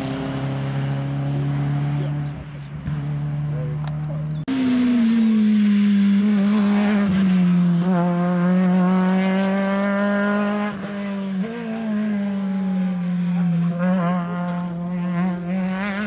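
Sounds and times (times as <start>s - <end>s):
rally car engine revving high: 0.0s - 16.0s.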